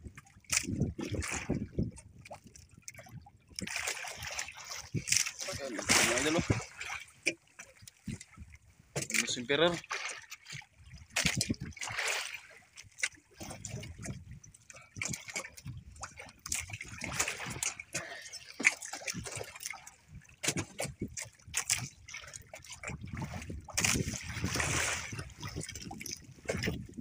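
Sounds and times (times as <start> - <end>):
knocks and clicks in wooden hull: 0.0 - 27.0
water splashing and trickling: 0.0 - 27.0.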